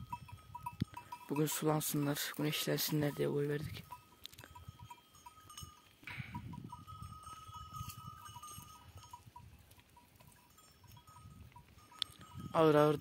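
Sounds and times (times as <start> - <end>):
livestock bells clinking: 0.0 - 13.0.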